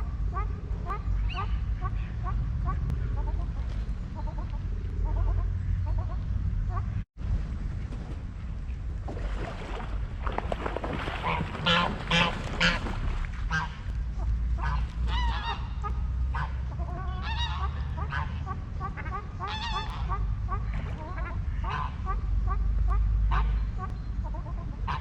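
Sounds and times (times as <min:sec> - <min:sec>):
waterfowl honking: 0:00.0 - 0:07.0, 0:11.1 - 0:25.0
low rumble: 0:00.0 - 0:25.0.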